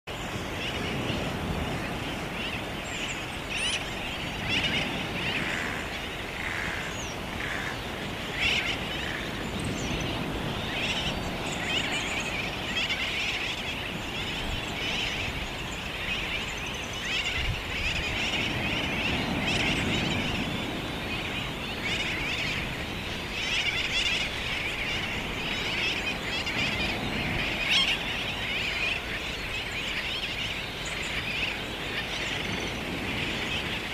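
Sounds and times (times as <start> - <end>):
chorus of birds calling: 0.1 - 33.9.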